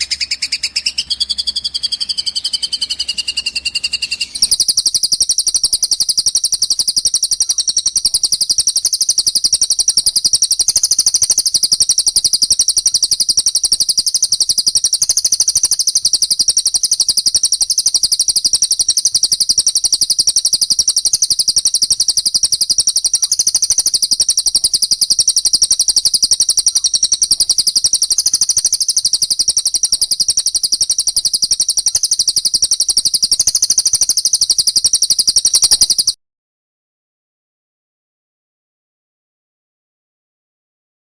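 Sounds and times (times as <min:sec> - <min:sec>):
songbird chirping: 0:00.0 - 0:36.2.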